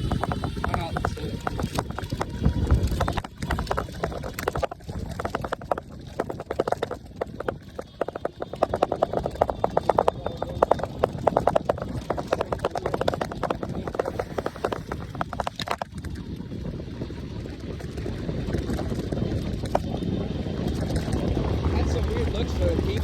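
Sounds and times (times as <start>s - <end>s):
e-bike ticking and rattling: 0.0s - 23.0s
low rumble: 0.0s - 23.0s.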